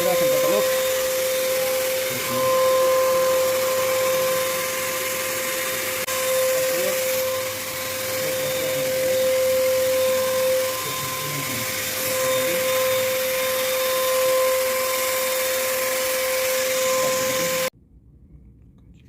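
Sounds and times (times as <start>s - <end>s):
electric paint sprayer whining: 0.0s - 17.7s.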